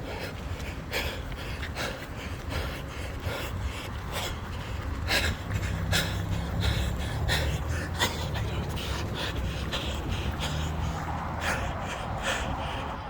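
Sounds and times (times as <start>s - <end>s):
person panting: 0.0s - 13.0s.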